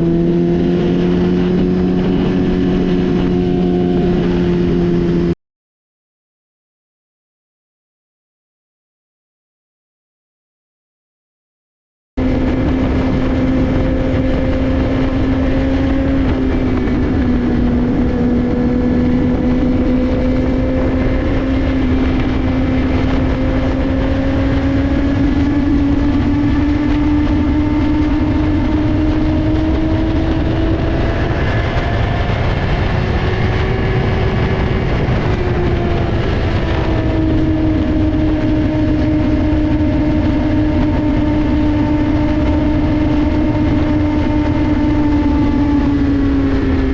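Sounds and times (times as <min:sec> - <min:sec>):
motorcycle engine cruising: 0:00.0 - 0:05.4, 0:12.2 - 0:46.9
wind noise: 0:00.0 - 0:05.4, 0:12.2 - 0:46.9.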